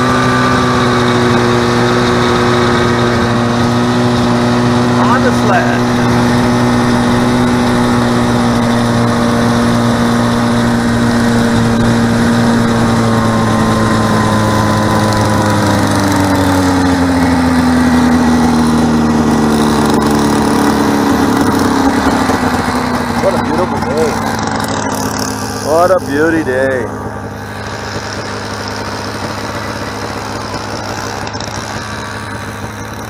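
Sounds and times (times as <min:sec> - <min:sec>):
snowmobile engine running: 0:00.0 - 0:33.0.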